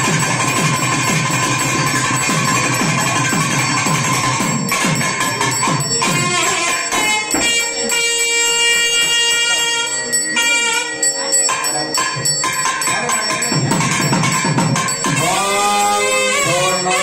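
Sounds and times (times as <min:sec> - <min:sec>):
bell ringing: 0:00.0 - 0:17.0.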